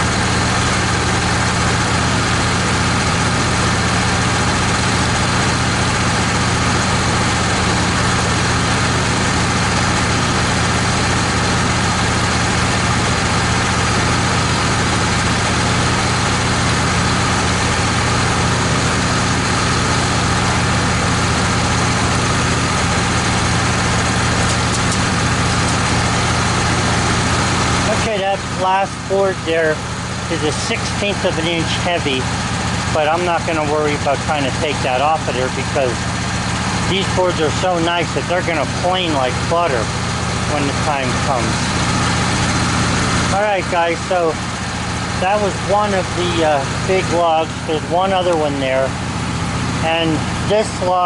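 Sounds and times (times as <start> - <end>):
sawmill engine running: 0.0 - 51.0.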